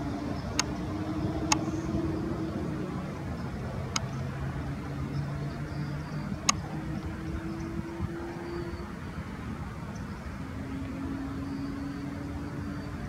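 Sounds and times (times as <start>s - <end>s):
low outdoor rumble: 0.0s - 11.0s
faint engine hum: 0.0s - 13.0s.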